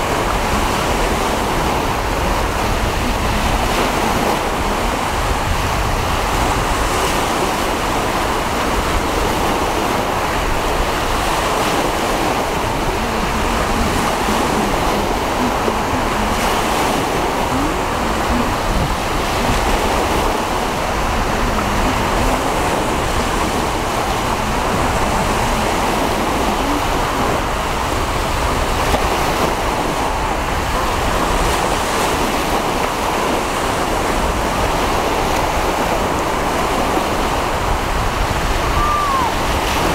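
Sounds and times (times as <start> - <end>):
choppy sea surf: 0.0 - 39.9
wind blowing across microphone: 0.0 - 39.9.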